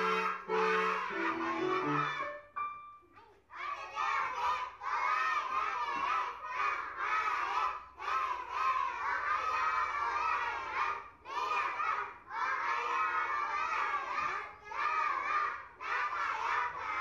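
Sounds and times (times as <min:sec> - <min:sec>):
children speaking in unison: 0:00.0 - 0:02.3, 0:03.1 - 0:17.0.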